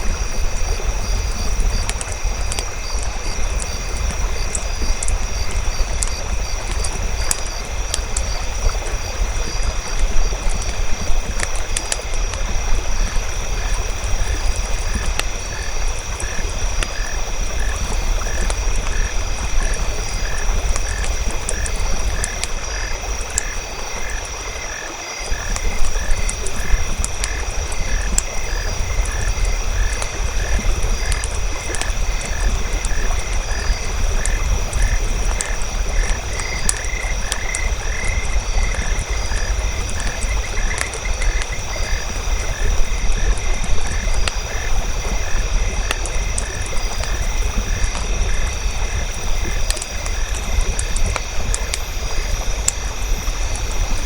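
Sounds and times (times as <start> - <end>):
campfire crackling and popping: 0.0 - 54.0
frogs croaking: 0.0 - 54.0.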